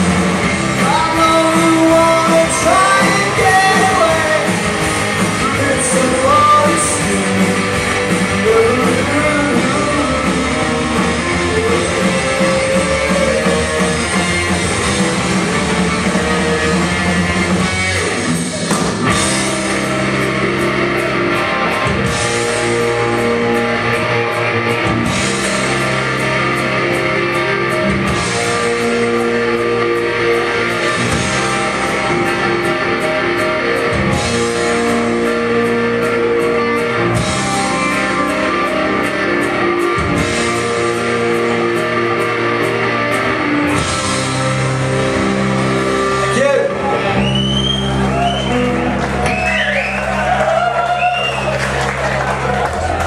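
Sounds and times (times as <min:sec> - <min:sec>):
rock band guitar chords: 0:00.0 - 0:53.0.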